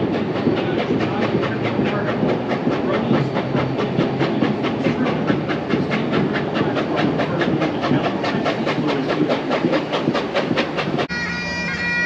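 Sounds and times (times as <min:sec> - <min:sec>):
rumble of moving train: 0:00.0 - 0:12.0
steam locomotive exhaust chuffing: 0:00.0 - 0:12.0.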